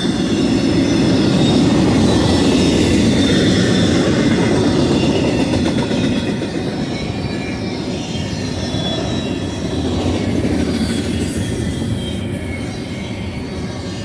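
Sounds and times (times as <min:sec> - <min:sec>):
faint high squeal: 0:00.0 - 0:14.0
freight train rumbling past: 0:00.0 - 0:14.0.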